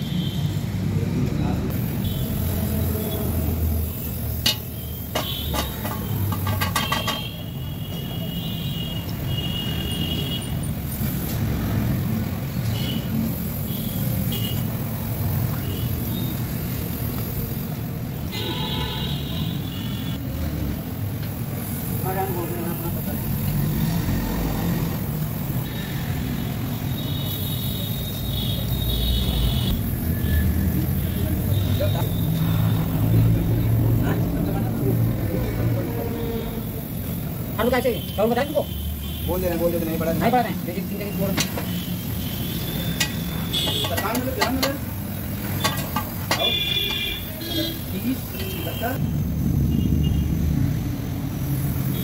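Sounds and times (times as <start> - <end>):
gas torch flame rumbling: 0.7 - 8.0, 8.8 - 18.4, 20.2 - 52.0.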